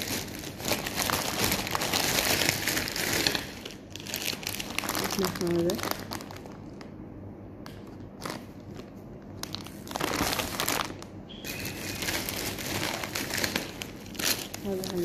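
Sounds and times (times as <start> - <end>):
plastic packets crinkling: 0.0 - 7.0, 7.9 - 15.0.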